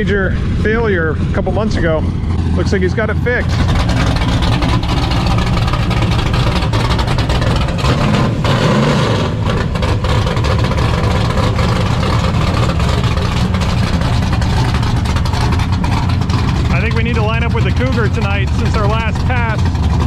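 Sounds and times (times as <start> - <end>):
drag racing car engines idling: 0.0 - 20.0.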